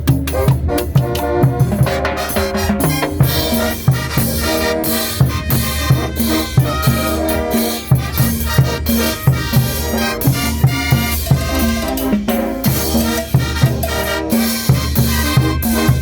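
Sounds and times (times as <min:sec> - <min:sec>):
band playing drums and brass: 0:00.0 - 0:16.0.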